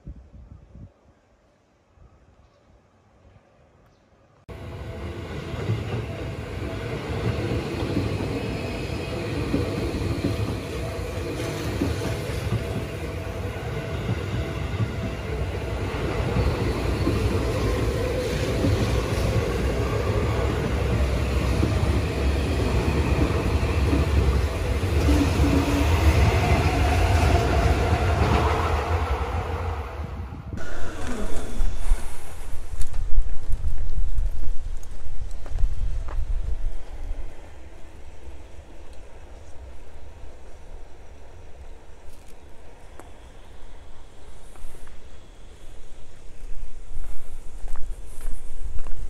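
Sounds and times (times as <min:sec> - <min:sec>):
train running on rails: 0:04.5 - 0:49.0.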